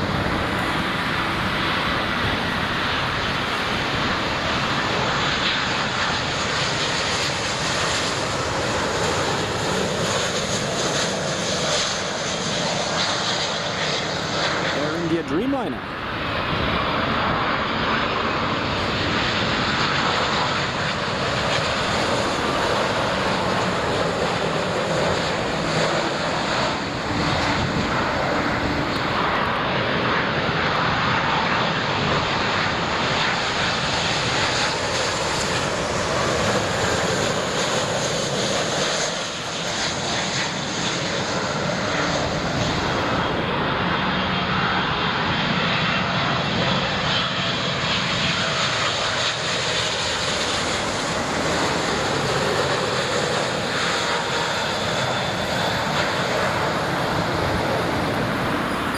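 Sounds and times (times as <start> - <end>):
jet engines: 0.0 - 58.9.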